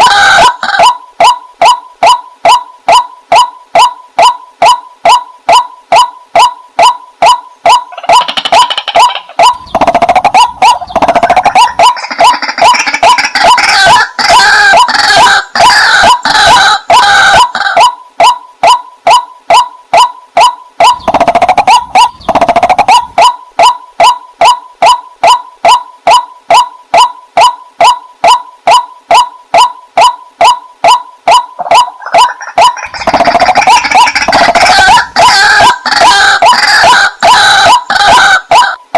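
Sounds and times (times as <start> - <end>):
waterhen calling: 0.0 - 38.8.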